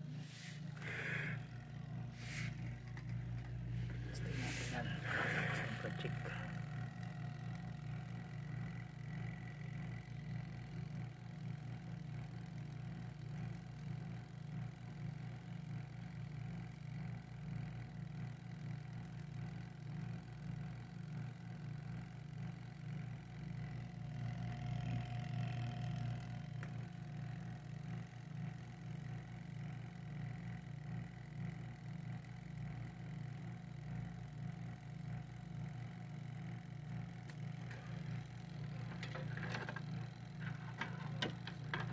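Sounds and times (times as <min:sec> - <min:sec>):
electric motor humming: 0:00.0 - 0:41.9.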